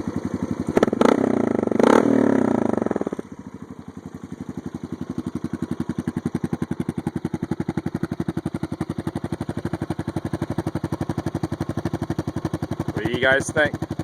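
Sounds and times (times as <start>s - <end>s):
atv engine revving and idling: 0.0s - 14.0s.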